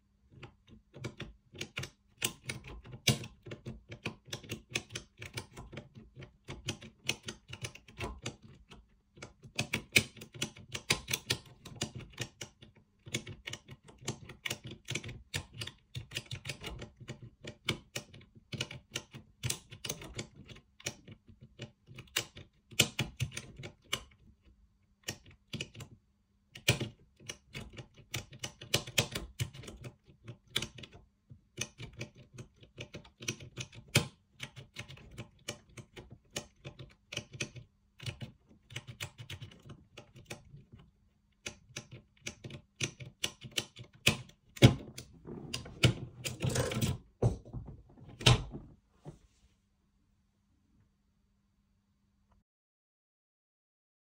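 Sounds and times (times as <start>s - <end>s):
lock pick clicking in a lock: 0.4s - 24.2s, 26.5s - 31.0s, 31.6s - 47.0s.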